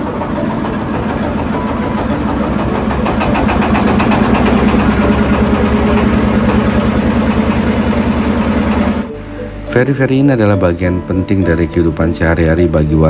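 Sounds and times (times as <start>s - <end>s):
ferry engine running: 0.0s - 13.0s.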